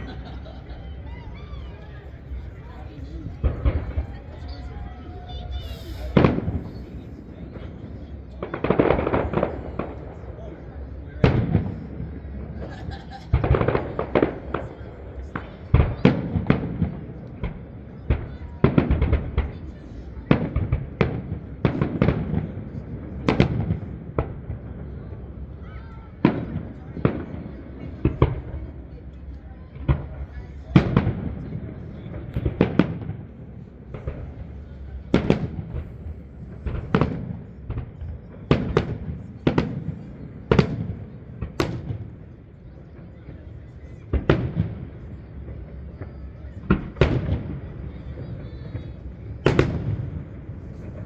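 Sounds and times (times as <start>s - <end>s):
fireworks exploding: 0.0s - 51.0s.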